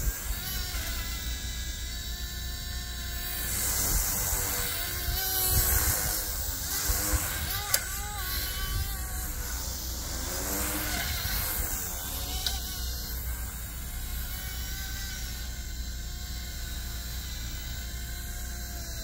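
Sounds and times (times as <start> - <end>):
rc helicopter motor whining: 0.0 - 19.0.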